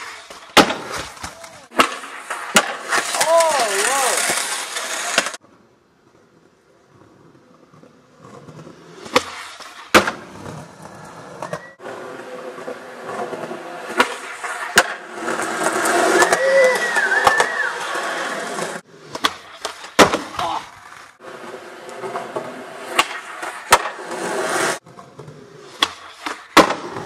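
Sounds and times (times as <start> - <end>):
skateboard popping and landing clacks: 0.0 - 5.6, 7.6 - 27.0
skateboard wheels rolling on concrete: 0.0 - 27.0.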